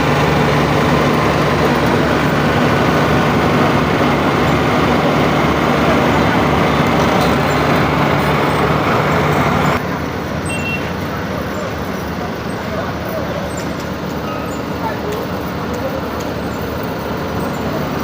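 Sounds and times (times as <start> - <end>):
street traffic road noise: 0.0 - 18.0
vehicle engine running: 0.0 - 18.0.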